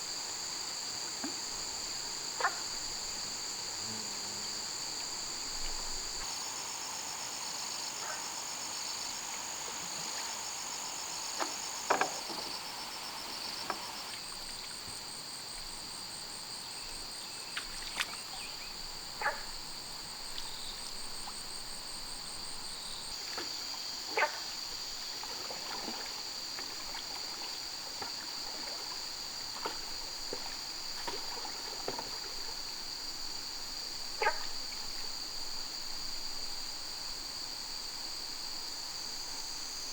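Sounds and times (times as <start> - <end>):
shrill insect chorus: 0.0 - 39.9.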